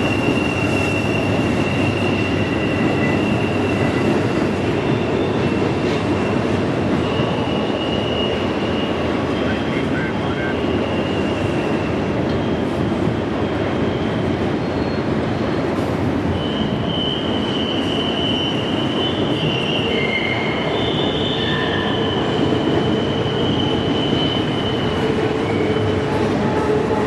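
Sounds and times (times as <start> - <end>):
high-pitched wheel squeal: 0.0 - 15.1, 16.3 - 27.0
train wheels rumbling on rail: 0.0 - 27.0.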